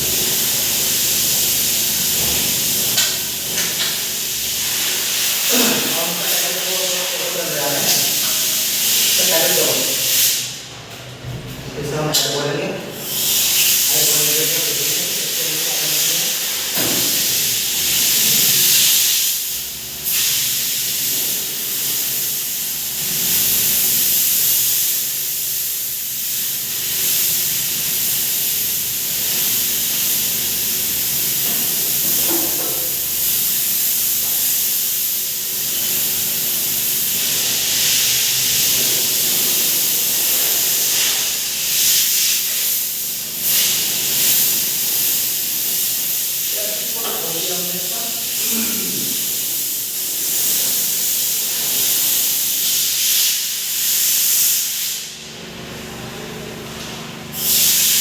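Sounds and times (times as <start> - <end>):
pressurised jet hissing: 0.0 - 10.6, 13.0 - 22.5, 23.3 - 55.1.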